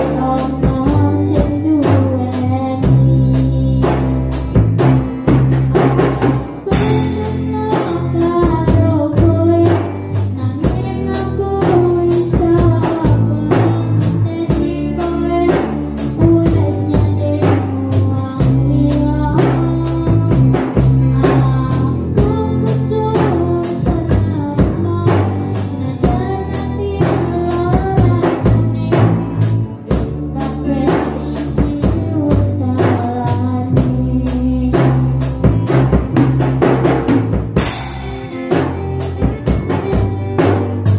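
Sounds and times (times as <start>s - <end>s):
band playing instrumental song: 0.0s - 40.9s
drum kit beat: 0.0s - 40.9s.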